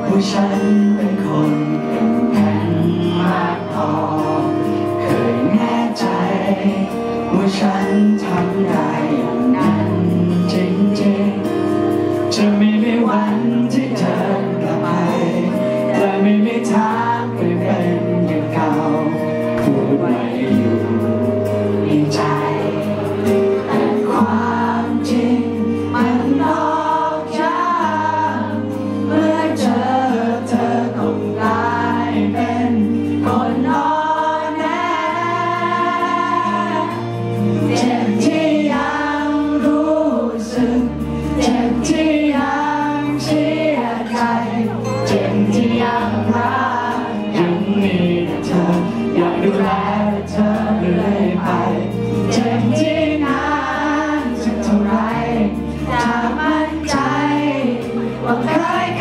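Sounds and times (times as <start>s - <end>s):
man singing into a microphone: 0.0s - 59.0s
pop band accompaniment: 0.0s - 59.0s.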